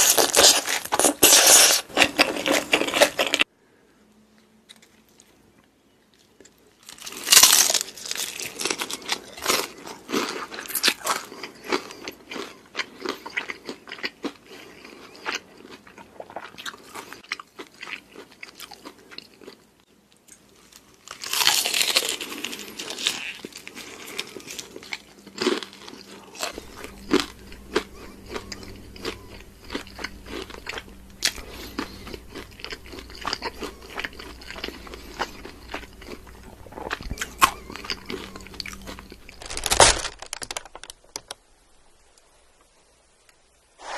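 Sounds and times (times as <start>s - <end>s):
crunchy chewing: 0.0s - 3.5s, 4.6s - 40.9s.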